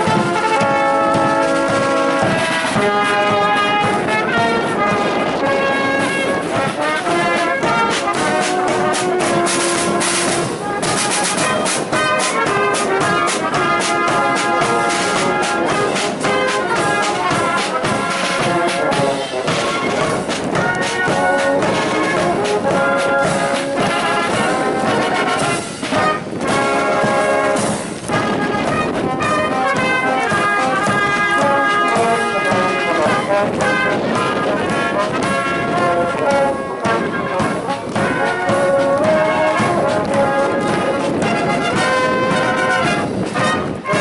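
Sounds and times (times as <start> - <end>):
drum beats: 0.0 - 44.0
military band playing a march: 0.0 - 44.0.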